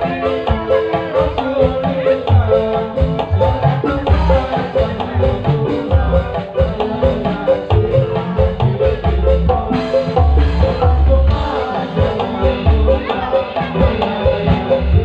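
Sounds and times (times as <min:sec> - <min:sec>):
heavy bass drum beats: 0:00.0 - 0:15.0
mallet-like melody: 0:00.0 - 0:15.0.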